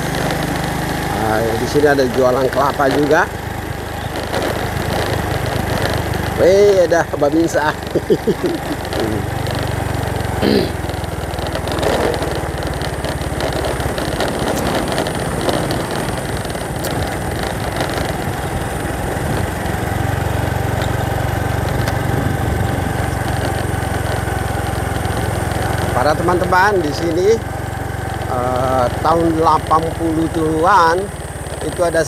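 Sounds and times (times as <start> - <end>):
road and wind noise: 0.0 - 32.0
vehicle engine running: 0.0 - 32.0.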